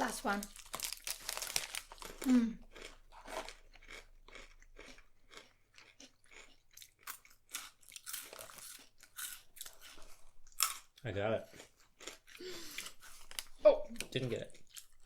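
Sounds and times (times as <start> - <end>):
person chewing crunchy snack: 0.4 - 15.0.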